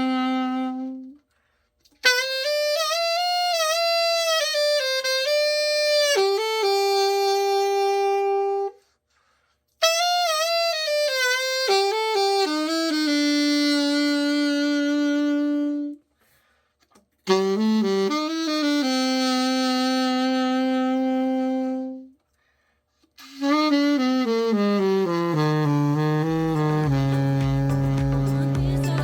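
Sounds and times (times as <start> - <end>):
solo saxophone phrases: 0.0 - 1.3, 2.0 - 8.9, 9.8 - 16.1, 17.2 - 22.2, 23.2 - 29.0.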